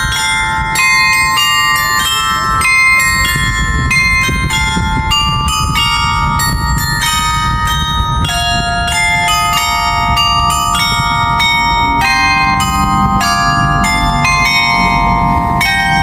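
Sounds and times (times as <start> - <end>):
carillon bells playing melody: 0.0 - 16.0.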